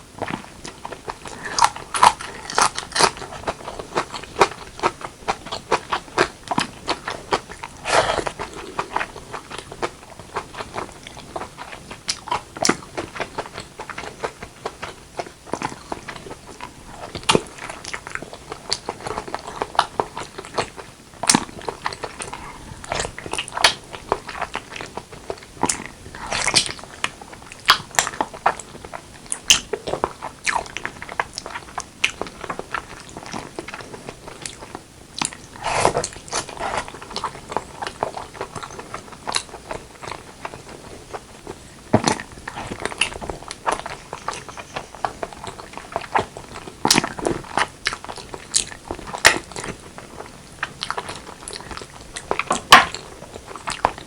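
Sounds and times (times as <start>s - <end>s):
chewing and mouth smacks: 0.2s - 54.0s.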